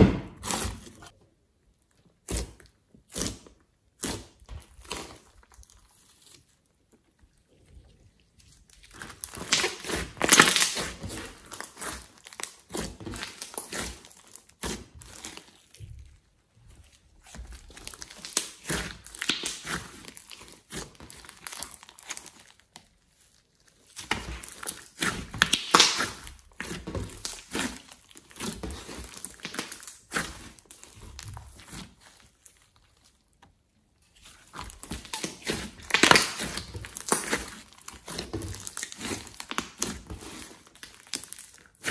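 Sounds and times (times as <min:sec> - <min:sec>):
slime squishing and crackling: 0:00.0 - 0:41.9.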